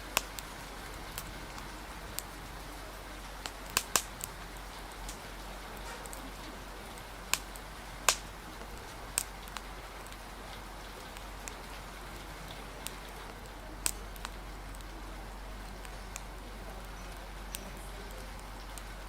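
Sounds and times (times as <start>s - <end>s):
falling rain hiss: 0.0s - 19.0s
wood fire crackling: 0.0s - 19.0s.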